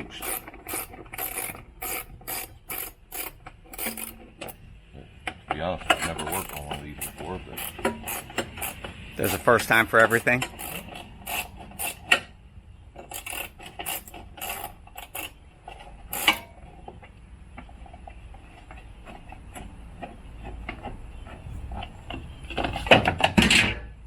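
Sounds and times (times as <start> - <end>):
hand tools clicking and knocking: 0.0 - 12.4, 13.0 - 23.8.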